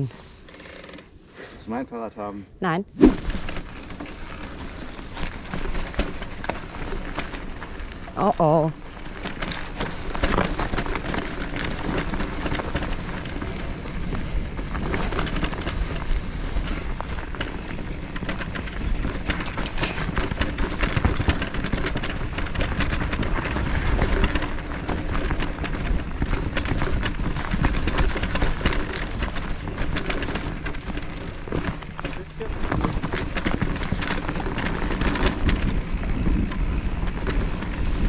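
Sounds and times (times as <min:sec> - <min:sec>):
bike rattling and clattering: 0:03.0 - 0:38.0.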